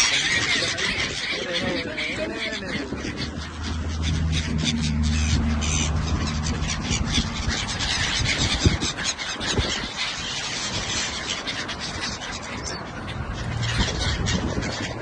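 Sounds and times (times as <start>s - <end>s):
seagulls calling: 0.0s - 15.0s.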